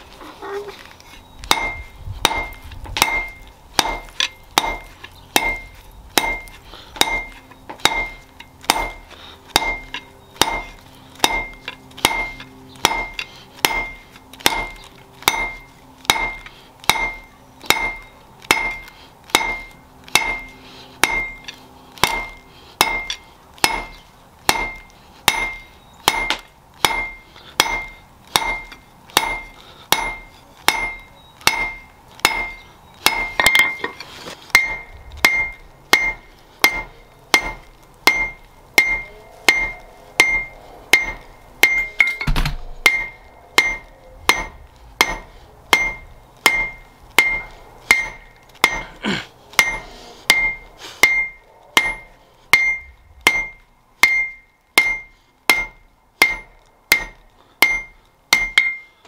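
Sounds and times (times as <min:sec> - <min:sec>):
hammer striking steel on anvil: 0:01.4 - 0:49.0, 0:49.6 - 0:59.0.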